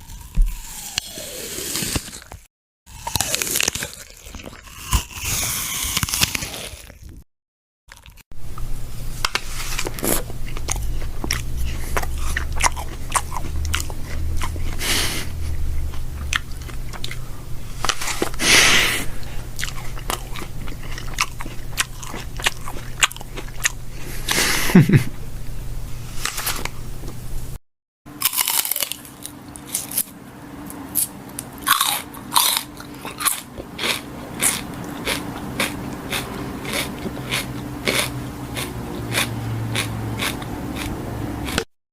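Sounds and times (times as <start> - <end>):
crunchy biting and chewing: 0.0 - 7.2, 7.9 - 8.2, 9.2 - 24.9, 28.1 - 41.7.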